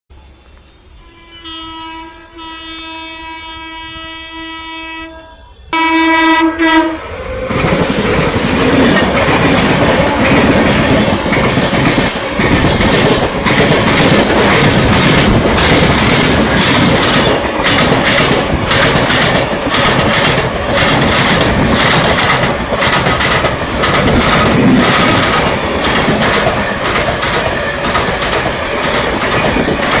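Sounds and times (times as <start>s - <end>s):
train running on rails: 0.1s - 30.0s.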